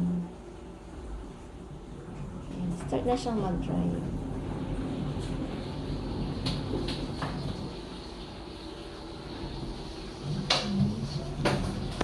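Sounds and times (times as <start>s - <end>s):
clothes dryer humming: 0.0s - 12.0s.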